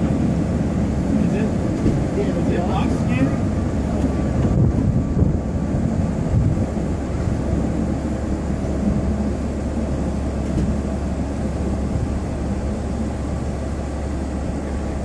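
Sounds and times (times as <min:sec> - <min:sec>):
wind buffeting microphone: 0:00.0 - 0:13.5
boat engines rumbling: 0:00.0 - 0:15.0.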